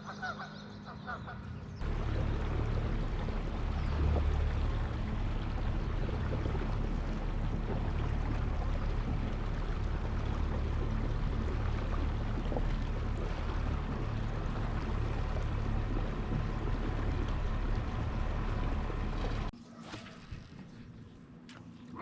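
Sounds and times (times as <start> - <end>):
low steady hum: 0.0 - 22.0
rushing water: 1.8 - 19.5.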